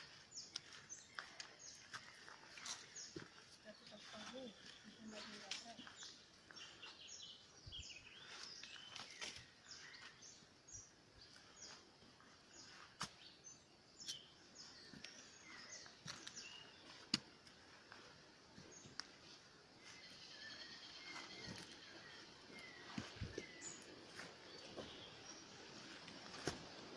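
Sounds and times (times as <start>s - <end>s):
faint bird chirps: 0.0s - 18.0s, 18.7s - 26.4s.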